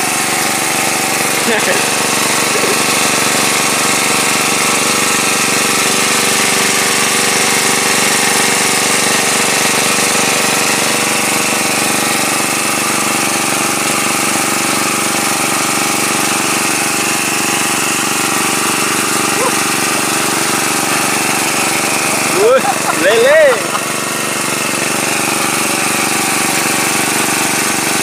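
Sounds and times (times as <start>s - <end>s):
water pump engine running: 0.0s - 28.0s.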